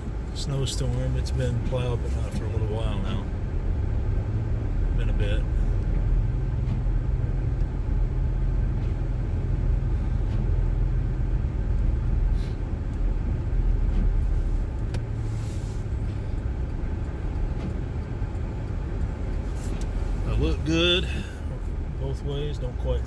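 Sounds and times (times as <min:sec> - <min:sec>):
car engine and tyres rumble: 0:00.0 - 0:23.0.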